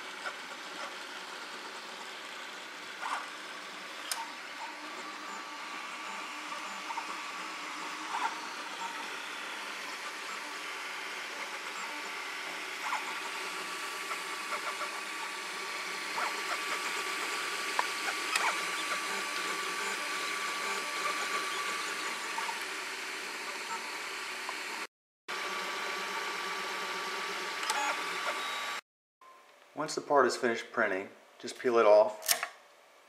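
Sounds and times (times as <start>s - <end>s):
printer stepper motors humming: 0.0s - 28.8s.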